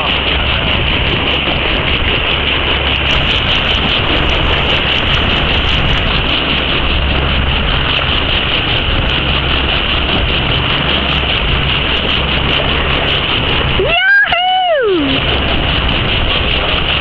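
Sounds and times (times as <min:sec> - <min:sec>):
boat motor running: 0:00.0 - 0:17.0
wind and water rushing: 0:00.0 - 0:17.0.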